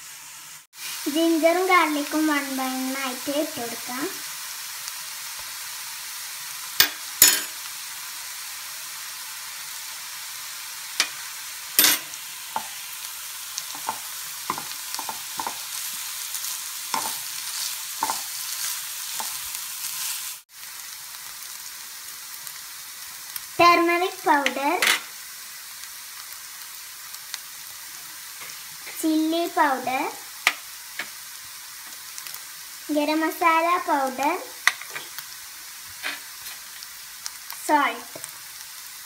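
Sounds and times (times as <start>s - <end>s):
onions sizzling in oil: 0.0s - 39.0s.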